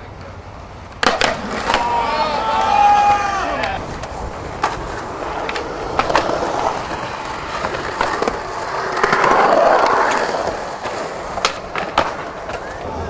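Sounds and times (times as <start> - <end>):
skateboard clacking on ground: 0.0 - 13.0
skateboard wheels rolling: 0.0 - 13.0.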